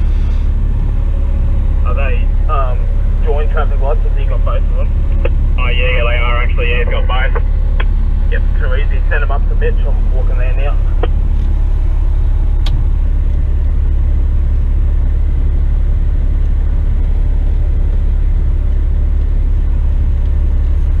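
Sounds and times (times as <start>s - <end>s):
truck diesel engine idling: 0.0s - 21.0s.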